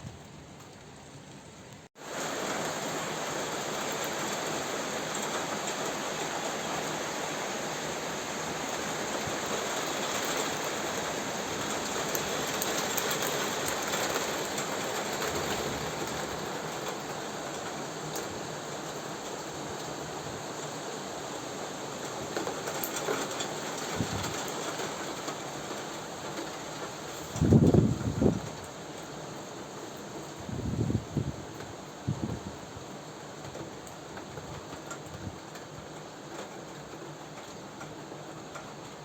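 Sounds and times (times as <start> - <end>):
heavy rain downpour: 0.0 - 39.0.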